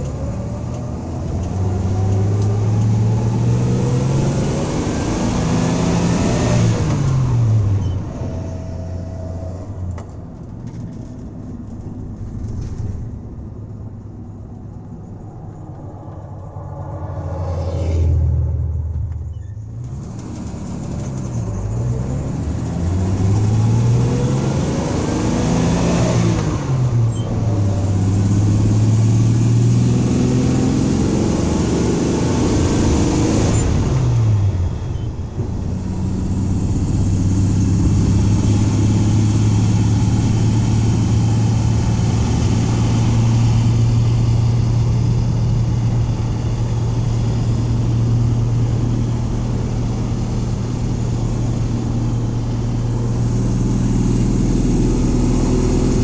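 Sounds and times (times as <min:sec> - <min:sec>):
van engine accelerating: 0:00.0 - 0:56.0.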